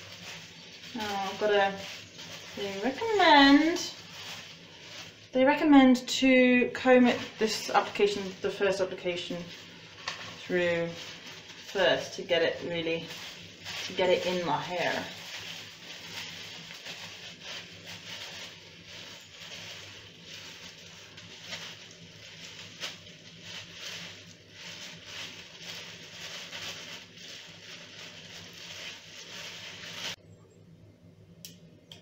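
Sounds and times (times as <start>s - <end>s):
gloved hands rustling in wet hair: 0.0s - 30.2s
faint low hum: 0.0s - 32.0s.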